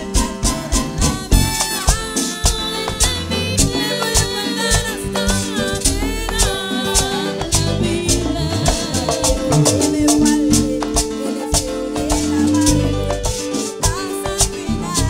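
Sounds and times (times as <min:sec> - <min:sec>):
bass: 0:00.0 - 0:15.0
live band playing latin music: 0:00.0 - 0:15.0
shaker rhythm: 0:00.0 - 0:15.0.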